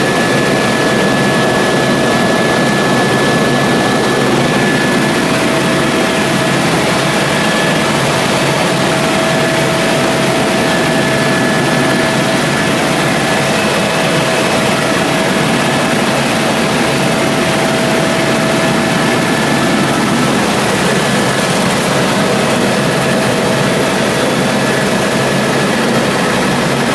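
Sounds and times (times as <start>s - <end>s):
constant whine: 0.0s - 26.9s
helicopter engine and rotor noise: 0.0s - 26.9s.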